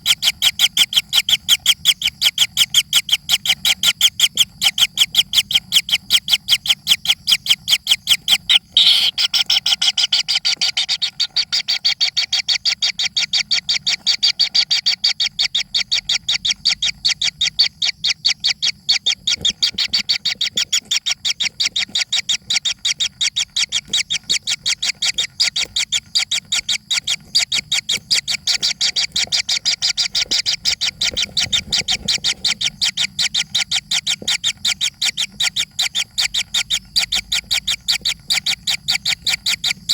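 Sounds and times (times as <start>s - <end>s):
baby birds chirping: 0.0s - 39.9s.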